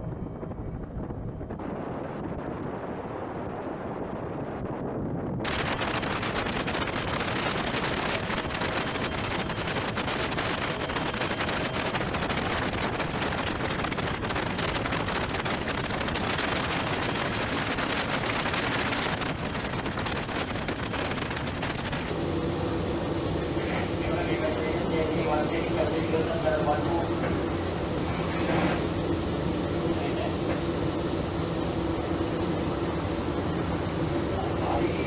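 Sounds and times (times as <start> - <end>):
helicopter engine and rotor noise: 0.0 - 35.0.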